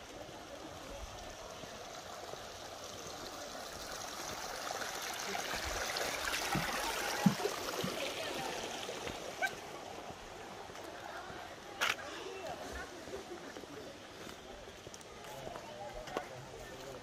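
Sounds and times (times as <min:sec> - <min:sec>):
stream flowing: 0:00.0 - 0:17.0.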